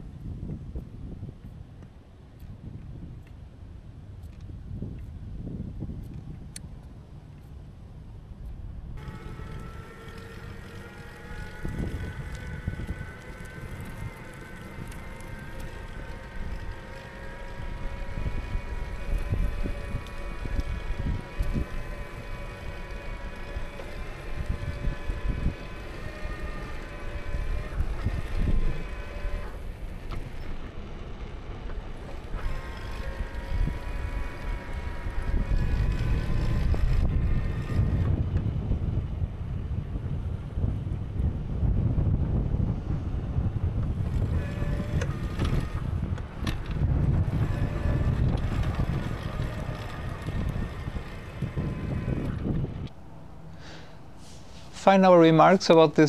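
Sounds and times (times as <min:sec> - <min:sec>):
faint steady whine: 0:00.0 - 0:56.0
wind buffeting microphone: 0:00.0 - 0:56.0
tyres rumbling over asphalt: 0:09.0 - 0:56.0.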